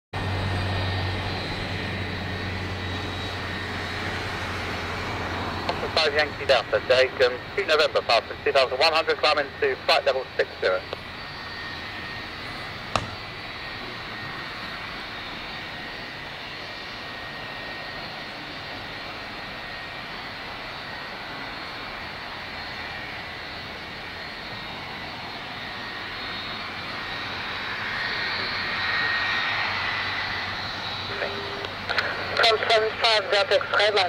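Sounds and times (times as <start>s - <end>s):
jet engines whining: 0.2s - 34.0s.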